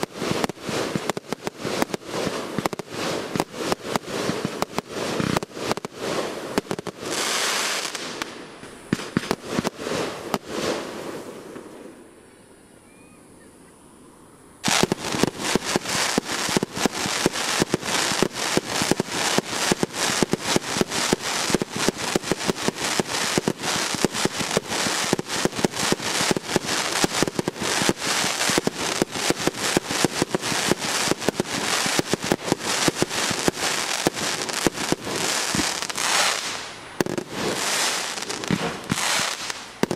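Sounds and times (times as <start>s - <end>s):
fireworks bursting and crackling: 0.0s - 12.2s, 14.6s - 39.9s.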